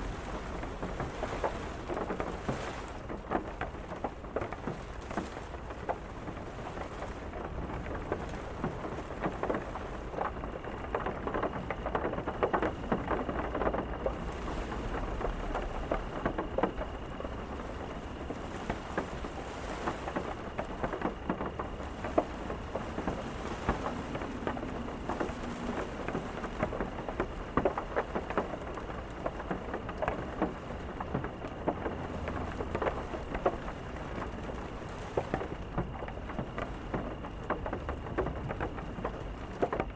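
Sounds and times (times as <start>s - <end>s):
rain drops on hard surface: 0.0s - 39.9s.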